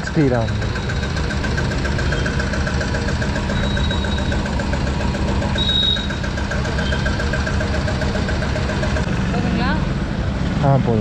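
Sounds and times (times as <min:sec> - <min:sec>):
fuel pump motor humming: 0:00.0 - 0:10.4.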